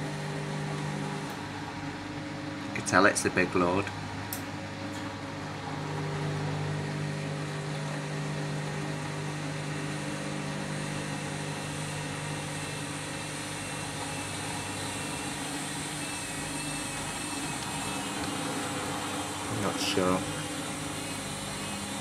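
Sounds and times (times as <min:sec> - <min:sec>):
washing machine humming: 0:00.0 - 0:22.0.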